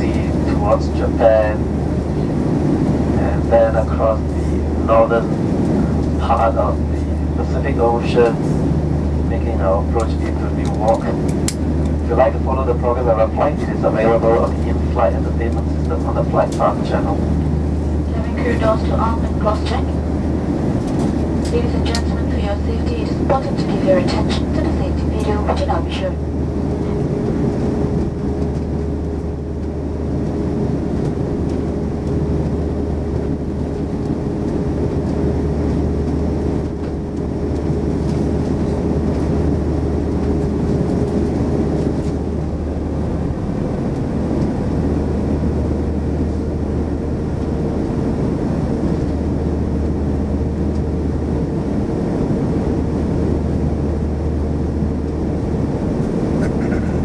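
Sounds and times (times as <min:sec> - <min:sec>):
aircraft engines low rumble: 0:00.0 - 0:57.0
engine hum: 0:00.0 - 0:57.0.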